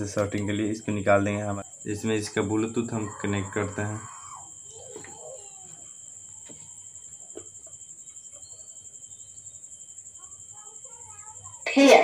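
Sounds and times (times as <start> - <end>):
insect chirping trill: 0.0 - 12.0.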